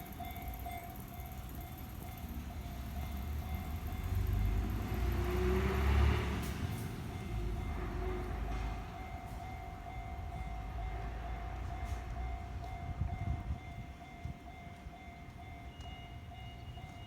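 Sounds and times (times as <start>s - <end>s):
level crossing warning bell: 0.0s - 17.0s
train rumble: 0.0s - 17.0s.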